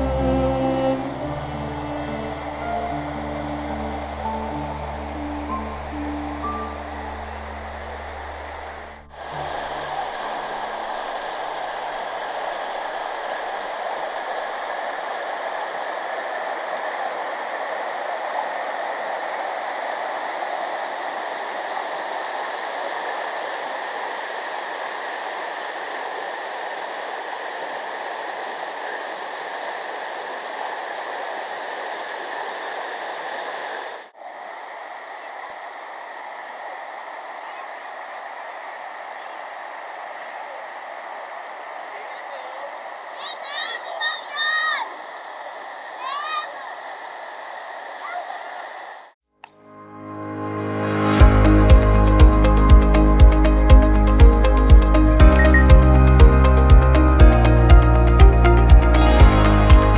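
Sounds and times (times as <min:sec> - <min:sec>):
waterfall rushing: 0:00.0 - 0:49.2, 0:50.2 - 0:59.9.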